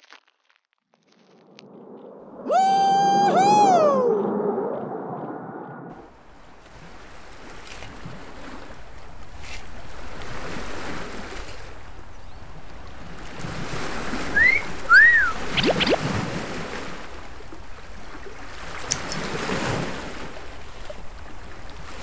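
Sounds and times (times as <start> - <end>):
sea waves washing on shore: 1.2 - 22.0.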